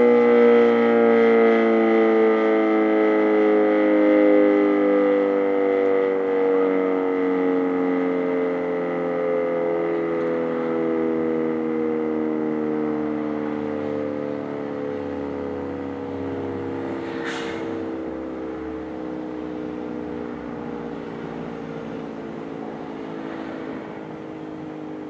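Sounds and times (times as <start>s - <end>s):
warning siren winding down: 0.0s - 25.0s.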